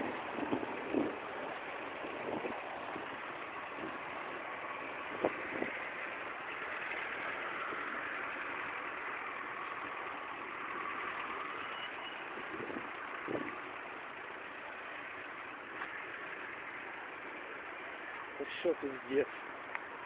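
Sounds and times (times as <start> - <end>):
car engines idling: 0.0 - 20.0
traffic hum: 0.0 - 20.0.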